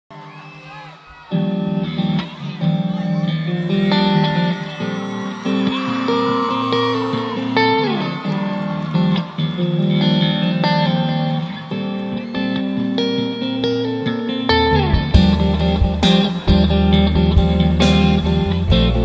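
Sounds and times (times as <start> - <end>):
guitar melody: 1.3 - 19.0.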